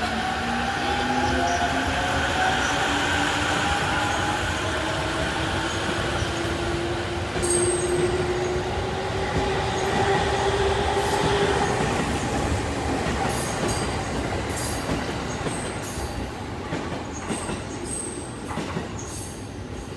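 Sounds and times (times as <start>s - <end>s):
train wheels on rails: 0.0s - 19.9s.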